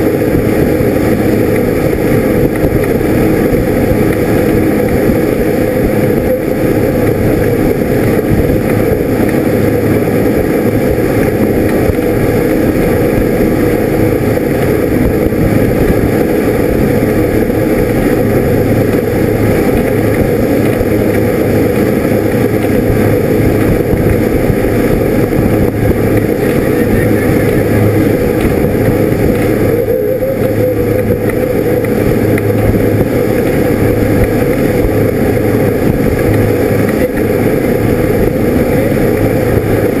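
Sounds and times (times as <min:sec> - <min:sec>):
motorboat engine drone: 0:00.0 - 0:40.0
rushing water: 0:00.0 - 0:40.0
wind: 0:00.0 - 0:40.0.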